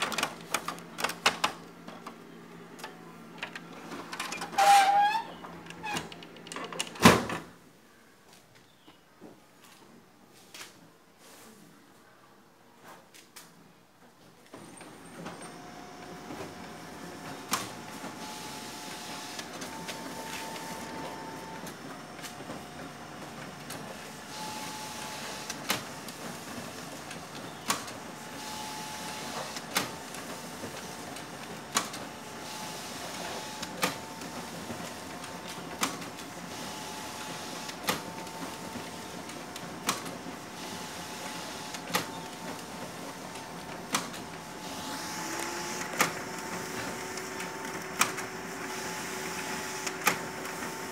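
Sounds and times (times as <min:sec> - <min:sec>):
photocopier mechanical whir: 0:00.0 - 0:06.5, 0:14.7 - 0:50.9.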